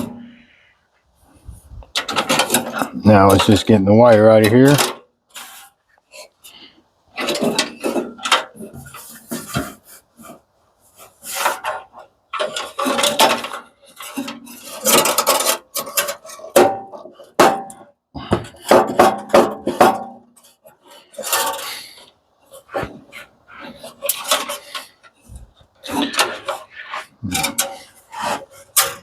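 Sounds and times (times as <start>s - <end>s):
metal clattering and scraping: 0.0s - 0.6s, 1.4s - 29.0s.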